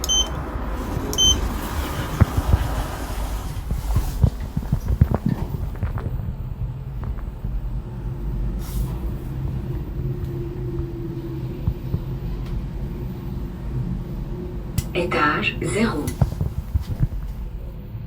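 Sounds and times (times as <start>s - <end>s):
lift low rumble: 0.0s - 18.0s
steady hum: 0.1s - 18.0s.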